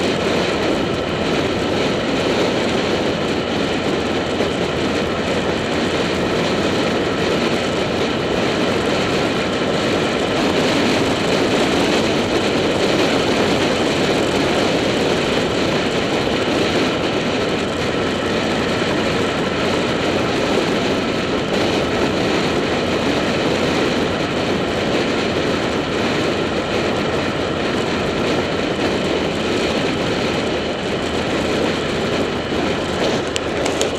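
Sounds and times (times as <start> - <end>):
motorcycle engine running: 0.0 - 33.9
wind rush over camera: 0.0 - 33.9.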